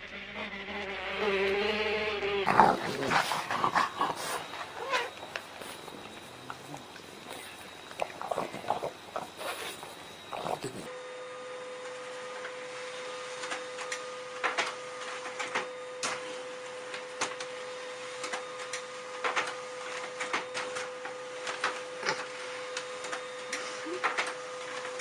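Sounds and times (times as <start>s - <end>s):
printer humming: 2.5s - 25.0s.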